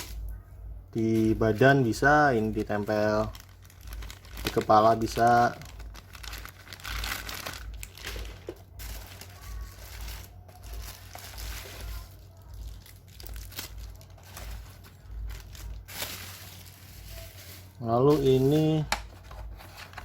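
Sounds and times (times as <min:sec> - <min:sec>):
plastic packaging crinkling: 0:01.0 - 0:20.0.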